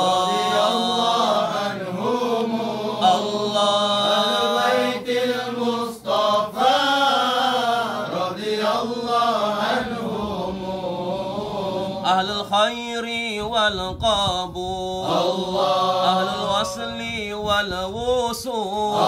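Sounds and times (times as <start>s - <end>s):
men chanting devotional verses: 0.0s - 19.0s.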